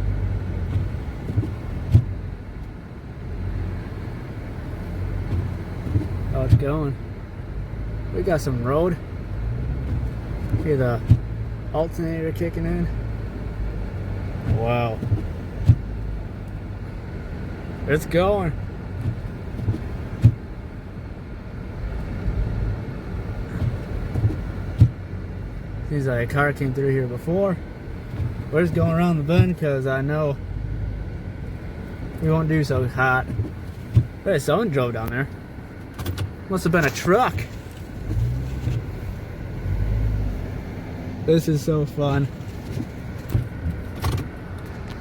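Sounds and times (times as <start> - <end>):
car engine humming: 0.0 - 45.0.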